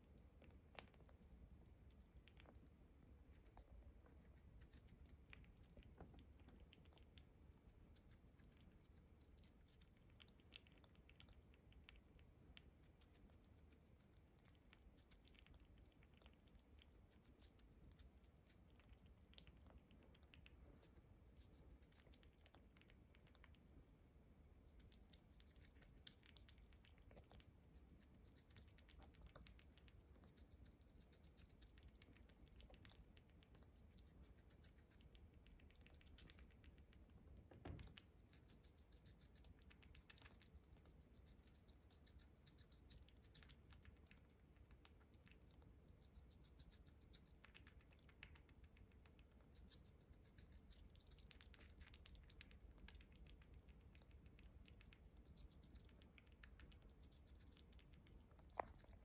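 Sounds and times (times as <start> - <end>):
squirrel chewing wet clicks: 0.0 - 59.0.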